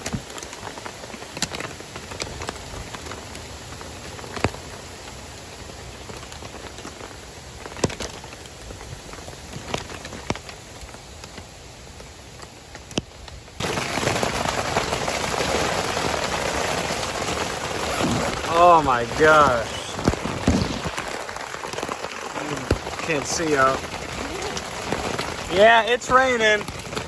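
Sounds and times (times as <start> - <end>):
heavy rain on a tarp: 0.0 - 27.0
raindrops tapping on a tarp: 0.0 - 27.0.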